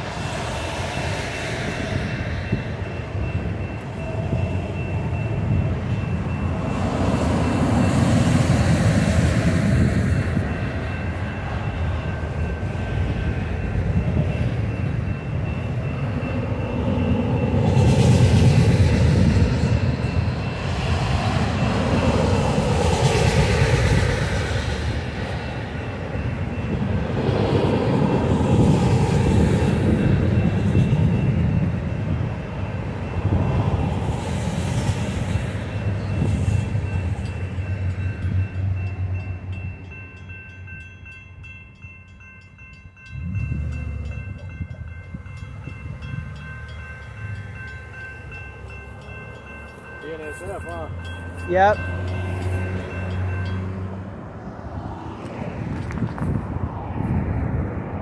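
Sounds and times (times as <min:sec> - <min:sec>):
crossing warning bell: 0:00.0 - 0:55.1
train wheels rumbling on rails: 0:00.0 - 0:58.0.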